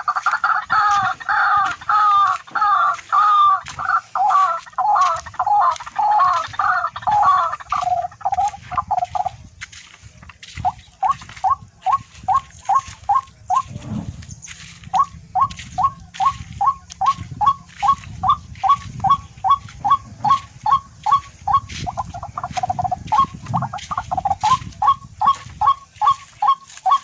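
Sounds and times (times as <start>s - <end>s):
bird calling: 0.0s - 27.0s.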